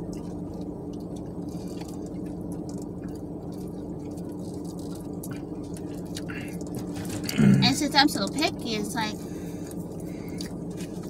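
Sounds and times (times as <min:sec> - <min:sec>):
soft chewing: 0:00.0 - 0:07.5, 0:09.5 - 0:11.0
low car cabin hum: 0:00.0 - 0:11.0.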